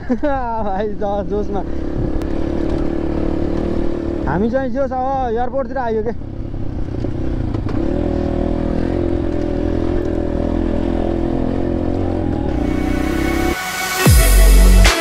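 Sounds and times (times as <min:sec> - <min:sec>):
dirt bike engine running: 0:00.0 - 0:13.6.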